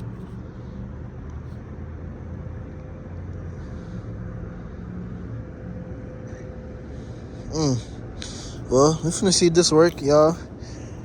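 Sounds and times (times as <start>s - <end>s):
faint steady hum: 0.0s - 11.0s
vehicle engine idling: 0.0s - 11.0s.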